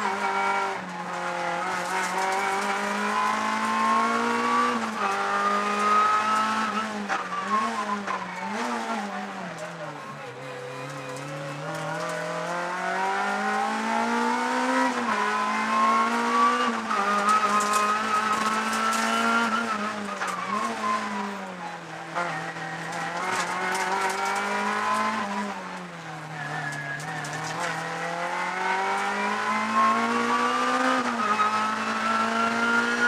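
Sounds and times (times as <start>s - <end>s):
car engine revving through gears: 0.0s - 33.0s.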